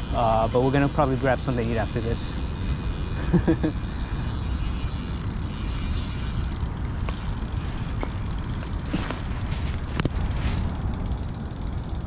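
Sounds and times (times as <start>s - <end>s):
tyres on pavement: 0.0s - 12.0s.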